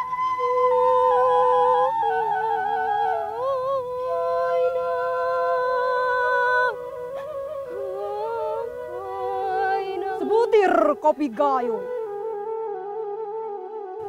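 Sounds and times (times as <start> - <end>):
woman singing ornamented: 0.0 - 11.8
flute slow melody: 0.0 - 14.0.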